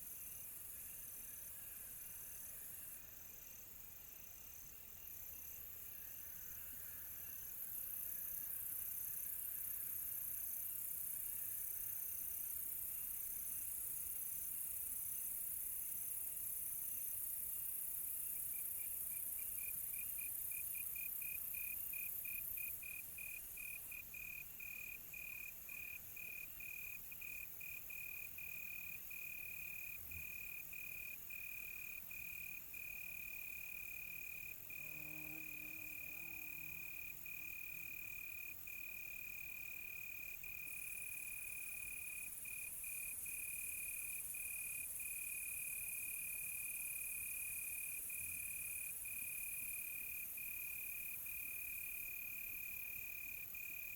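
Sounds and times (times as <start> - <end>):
cricket chirping and trilling: 0.2 - 53.9.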